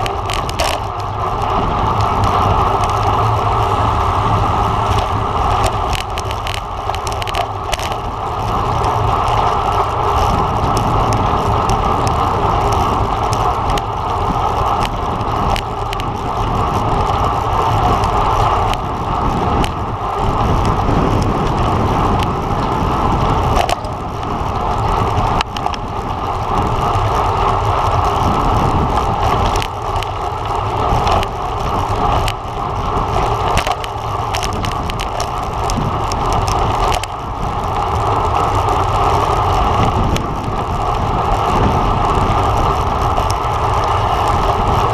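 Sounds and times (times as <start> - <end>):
bicycle tyre noise: 0.0 - 44.9
wind rumble on microphone: 0.0 - 44.9.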